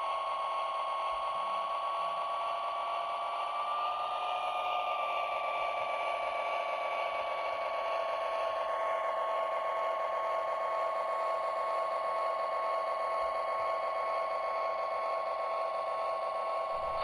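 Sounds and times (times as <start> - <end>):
model train humming on track: 0.0 - 17.0.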